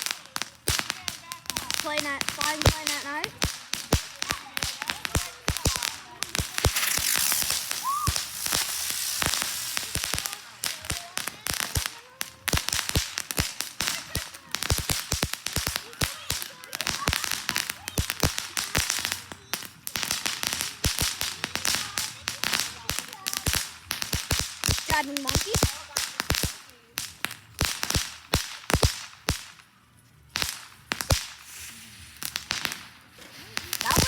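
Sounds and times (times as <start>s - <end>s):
fireworks crackling pops: 0.0s - 34.0s
fireworks spraying hiss: 0.0s - 34.0s.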